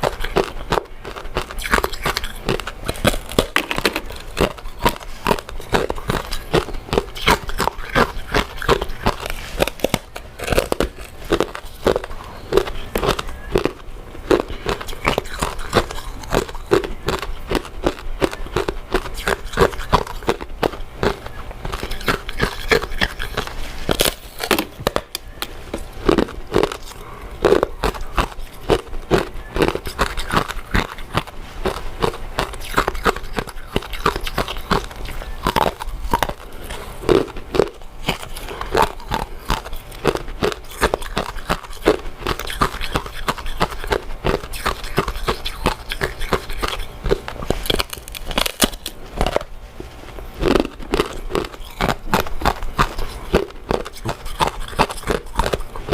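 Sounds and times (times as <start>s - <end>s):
person chewing sticky food: 0.0s - 55.9s.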